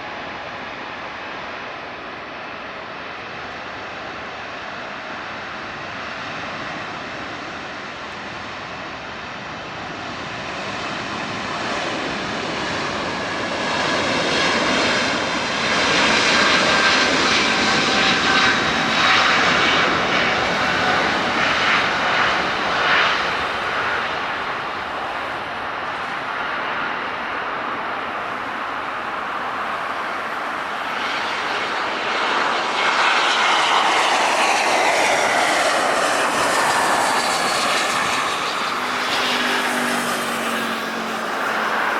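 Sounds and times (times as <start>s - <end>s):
faint jet whine: 0.0s - 41.9s
loud jet engine roar: 0.0s - 41.9s.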